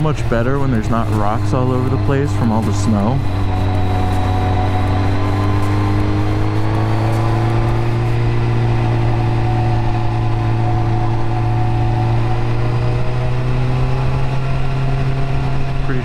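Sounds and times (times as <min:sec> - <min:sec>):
motorcycle engine cruising: 0:00.0 - 0:16.0
rush of noise: 0:00.0 - 0:16.0.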